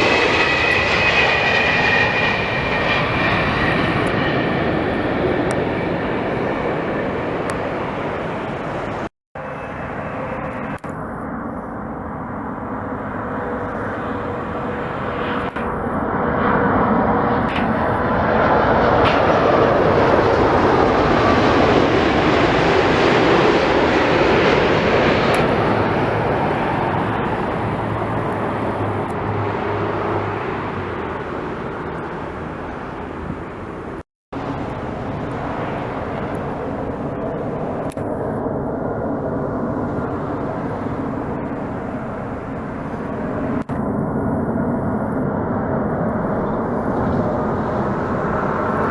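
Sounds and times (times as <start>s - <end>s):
jet airliner engines: 0.0s - 48.9s.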